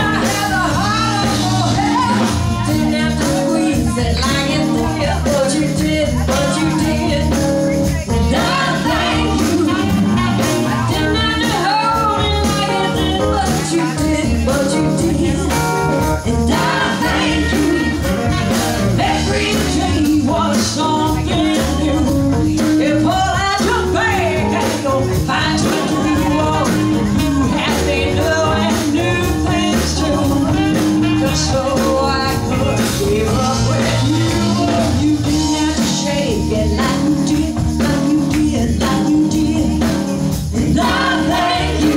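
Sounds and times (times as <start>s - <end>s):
bass guitar: 0.0s - 41.9s
drums: 0.0s - 41.9s
electric guitar: 0.0s - 41.9s
hand percussion: 0.0s - 41.9s
woman singing: 0.0s - 41.9s.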